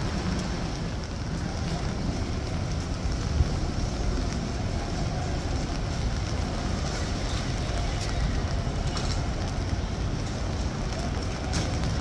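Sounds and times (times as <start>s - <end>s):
low street rumble: 0.0s - 12.0s
rain hiss: 0.0s - 12.0s.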